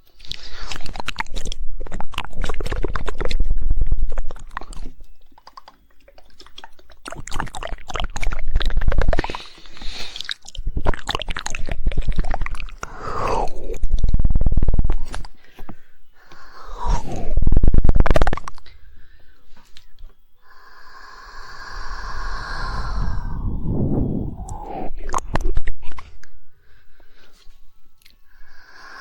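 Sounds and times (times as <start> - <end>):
wet mouth clicks: 0.0 - 18.8, 19.6 - 26.4, 28.0 - 29.0
rapid tongue clicking: 0.0 - 19.0, 19.6 - 23.6, 24.2 - 26.4.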